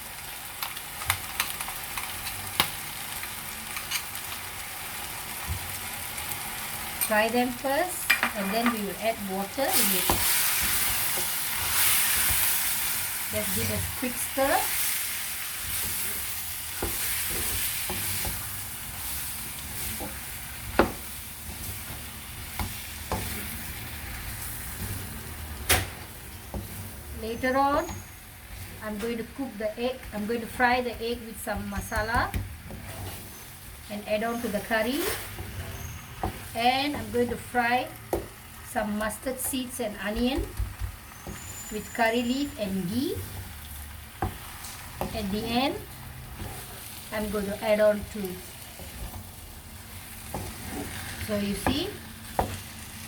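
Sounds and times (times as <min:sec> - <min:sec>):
chicken sizzling in a pan: 0:00.0 - 0:53.0.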